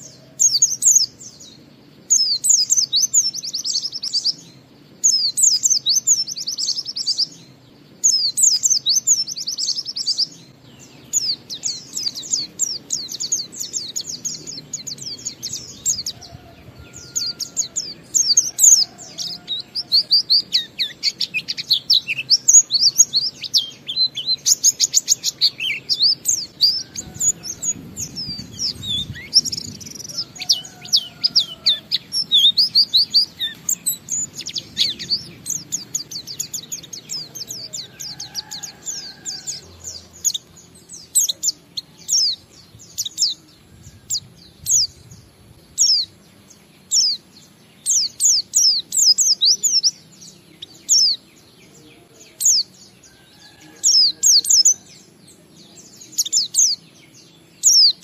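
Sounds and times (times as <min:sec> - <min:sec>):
bird twittering song: 0:00.0 - 0:58.0.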